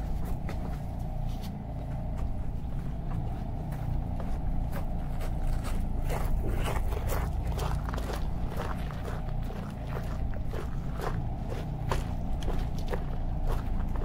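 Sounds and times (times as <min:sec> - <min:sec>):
footsteps and scuffing: 0:00.0 - 0:14.0
steady low rumble: 0:00.0 - 0:14.0.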